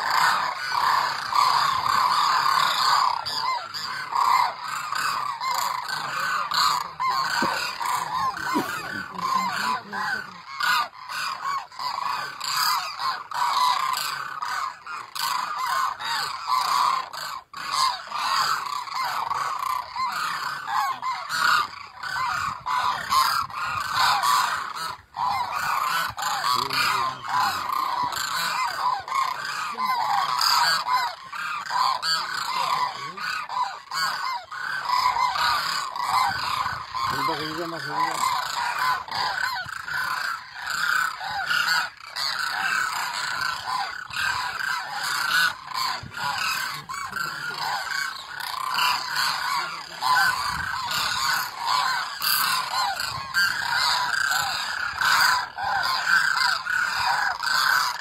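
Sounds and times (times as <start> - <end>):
flock of cranes calling: 0.0 - 58.0.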